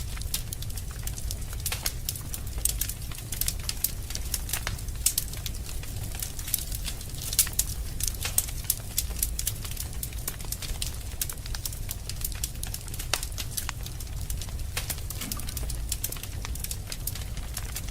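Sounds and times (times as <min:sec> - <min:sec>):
wood fire crackling: 0:00.0 - 0:17.9.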